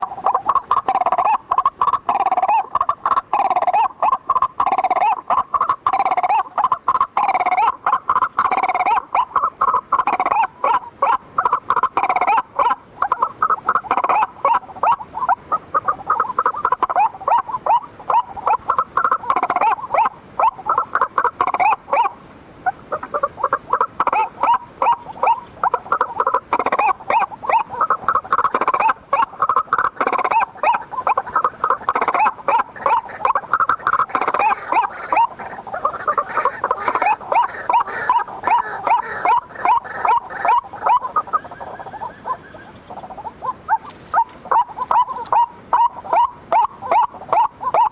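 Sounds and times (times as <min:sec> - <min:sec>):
waterhen calling rapidly: 0:00.0 - 0:47.9.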